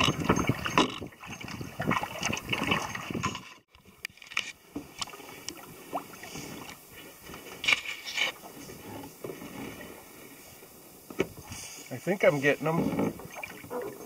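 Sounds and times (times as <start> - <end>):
paddle splashing water: 0.0 - 14.0.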